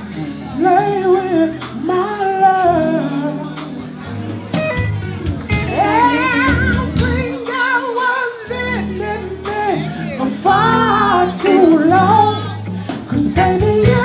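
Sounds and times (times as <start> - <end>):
man singing with vibrato: 0.0 - 4.2, 5.6 - 14.0
low bass line: 0.0 - 7.6, 8.4 - 14.0
electric guitar: 0.0 - 14.0
keyboard: 0.0 - 14.0.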